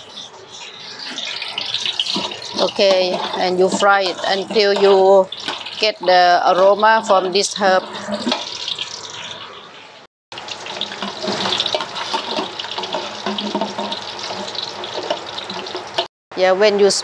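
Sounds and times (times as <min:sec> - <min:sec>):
ladle scraping metal pot: 0:00.0 - 0:09.3, 0:10.7 - 0:16.1
spices sizzling in oil: 0:00.0 - 0:16.1.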